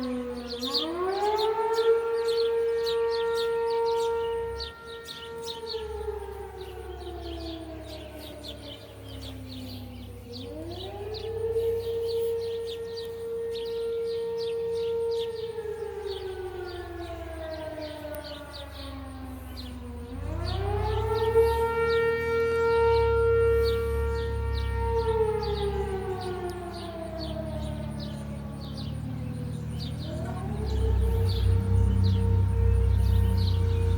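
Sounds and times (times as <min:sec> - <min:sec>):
fire siren wailing: 0:00.0 - 0:33.9.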